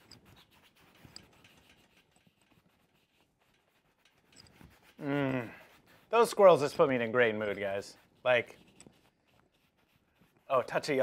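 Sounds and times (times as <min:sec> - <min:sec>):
pastel scratching on canvas: 0:00.0 - 0:11.0.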